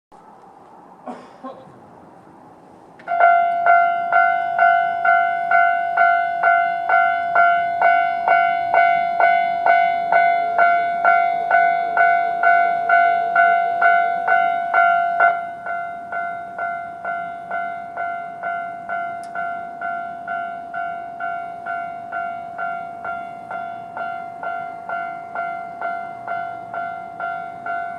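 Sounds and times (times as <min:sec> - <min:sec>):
level-crossing alarm bell: 0:03.1 - 0:27.9.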